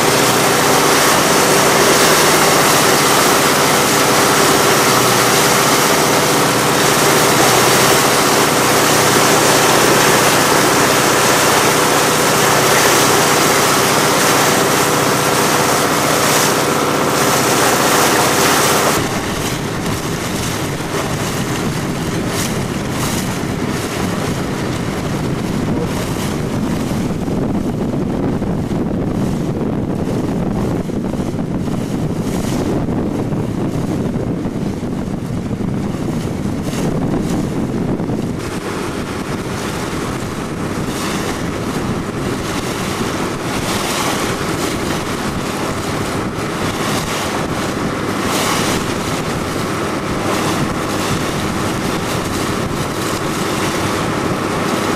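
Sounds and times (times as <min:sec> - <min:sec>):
boat engine running: 0:00.0 - 0:54.9
water rushing: 0:00.0 - 0:54.9
wind buffeting microphone: 0:00.0 - 0:54.9.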